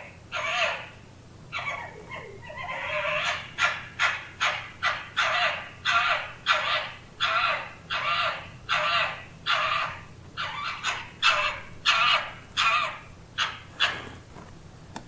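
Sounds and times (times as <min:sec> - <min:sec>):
fox raspy calls: 0:00.0 - 0:14.3.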